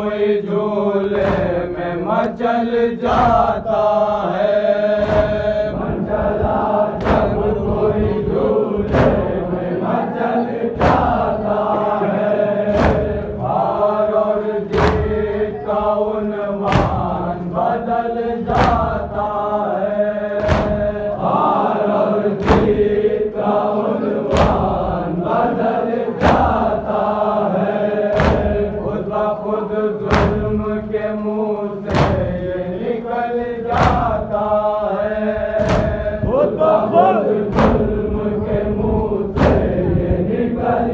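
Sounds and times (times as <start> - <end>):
men chanting a lament: 0.0 - 40.9
rhythmic strikes: 0.0 - 40.9.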